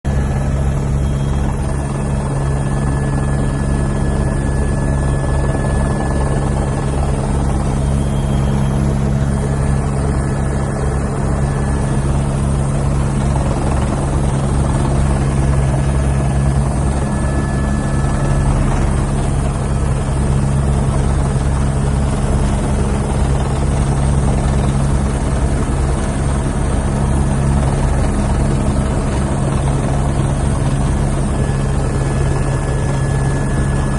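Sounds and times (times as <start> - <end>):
helicopter rotor blades chopping: 0.1 - 33.9.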